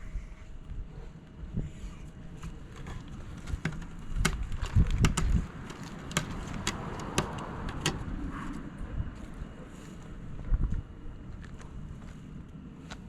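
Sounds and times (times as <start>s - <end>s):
low rumble on microphone: 0.0s - 5.7s, 6.3s - 13.0s.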